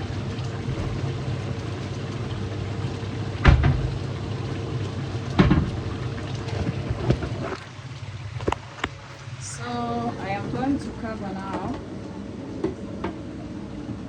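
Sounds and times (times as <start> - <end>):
pot cooking on stove rushing: 0.0 - 11.9.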